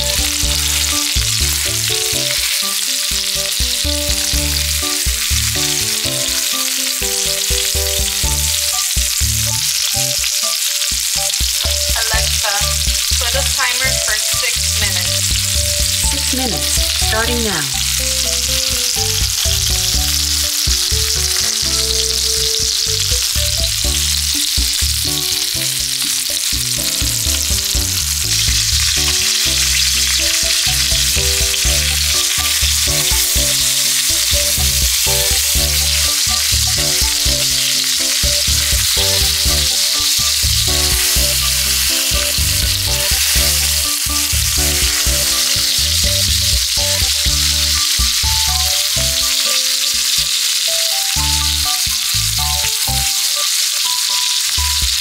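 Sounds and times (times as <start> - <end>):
background music: 0.0 - 55.0
steak sizzling in a frying pan: 0.0 - 55.0.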